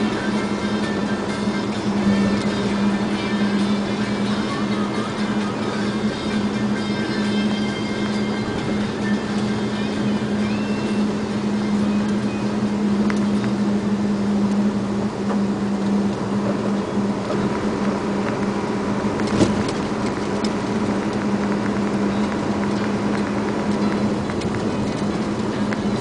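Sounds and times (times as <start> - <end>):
truck engine and tyre drone: 0.0 - 26.0.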